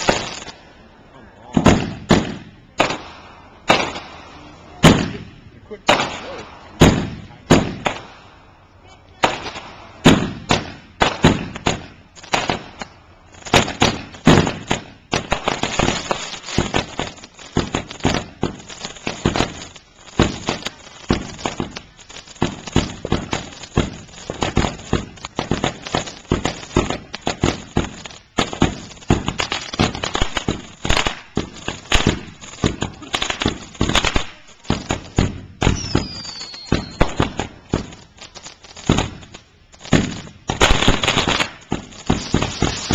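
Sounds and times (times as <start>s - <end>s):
fireworks banging and crackling: 0.0s - 42.9s.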